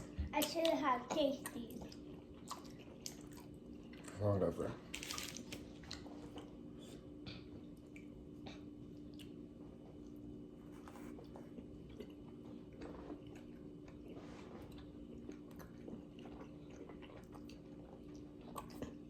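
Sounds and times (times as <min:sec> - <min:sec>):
person chewing: 0:01.8 - 0:04.2, 0:05.0 - 0:19.0.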